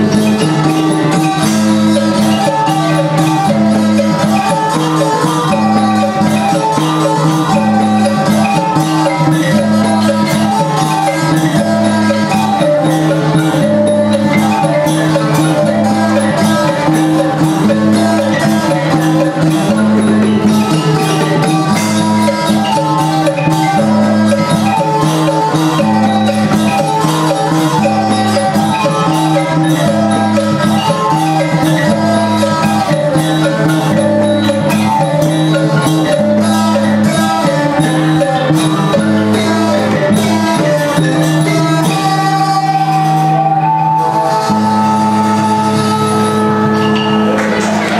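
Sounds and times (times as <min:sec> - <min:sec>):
folk ensemble with drums and strings: 0:00.0 - 0:47.9.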